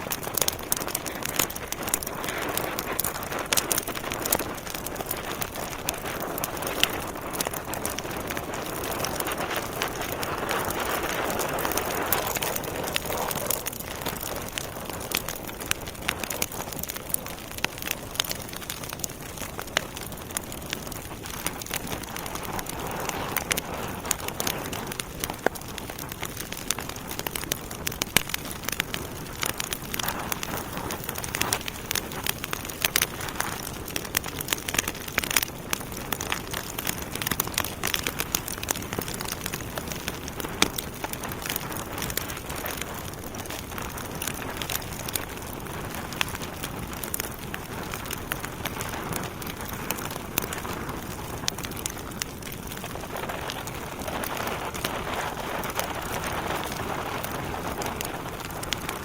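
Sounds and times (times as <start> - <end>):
fire crackling and popping: 0.0 - 59.0
fire hissing: 0.1 - 59.0.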